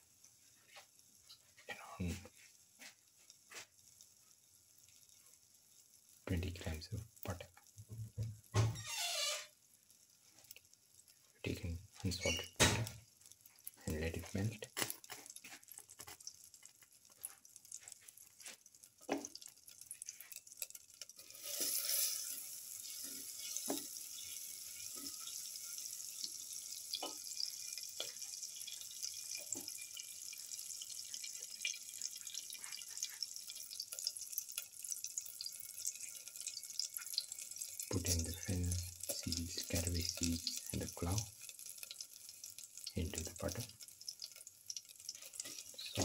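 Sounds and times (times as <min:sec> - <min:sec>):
butter sizzling in a pan: 0:00.0 - 0:46.0.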